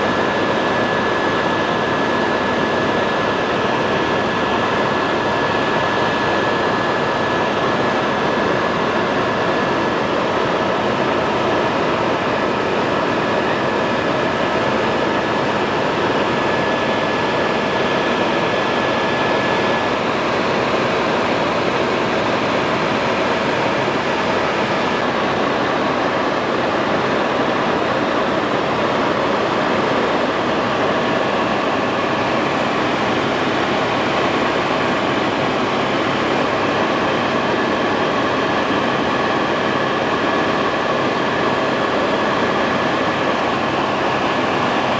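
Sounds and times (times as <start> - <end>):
helicopter engine and rotor drone: 0.0 - 44.9.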